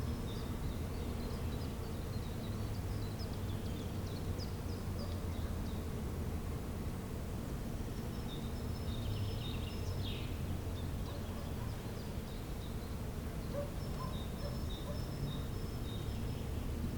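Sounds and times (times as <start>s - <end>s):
songbirds calling: 0.0s - 6.0s, 7.9s - 16.9s.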